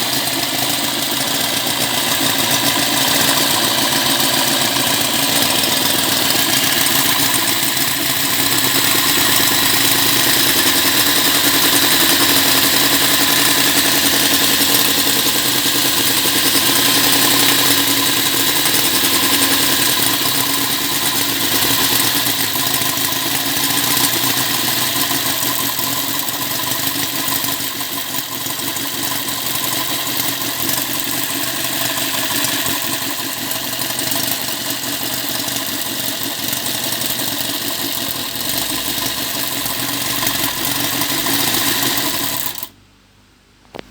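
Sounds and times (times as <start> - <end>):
small engine running: 0.0 - 42.8.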